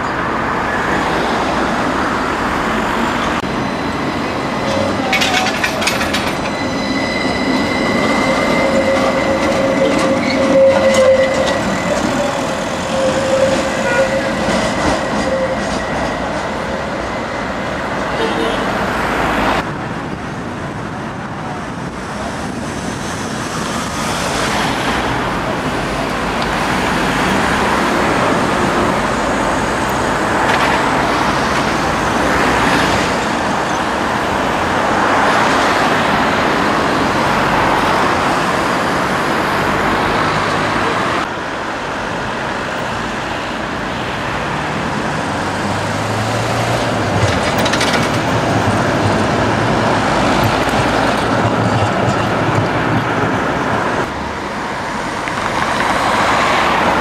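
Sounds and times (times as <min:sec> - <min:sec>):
cars and buses passing: 0:00.0 - 0:57.0
tram passing: 0:00.0 - 0:57.0.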